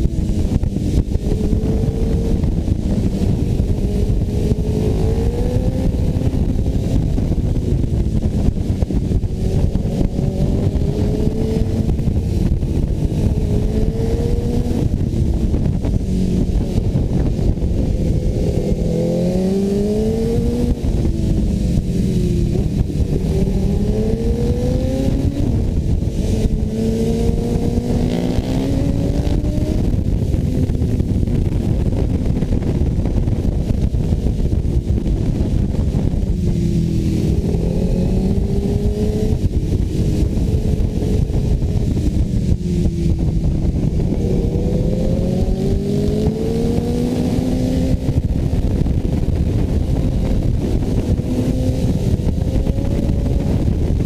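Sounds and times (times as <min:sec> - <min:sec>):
dense low rumble: 0:00.0 - 0:54.0
motorcycle engine accelerating: 0:00.0 - 0:54.0.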